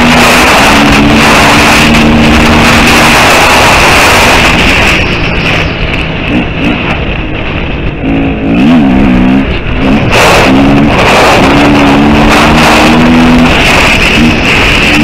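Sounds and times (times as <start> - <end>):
motorcycle engine revving: 0.0 - 15.0
wind rushing on microphone: 0.0 - 15.0.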